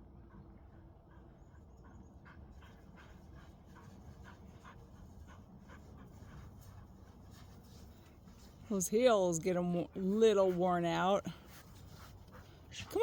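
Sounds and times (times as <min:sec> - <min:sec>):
dog panting: 0:00.2 - 0:08.6, 0:09.4 - 0:13.0.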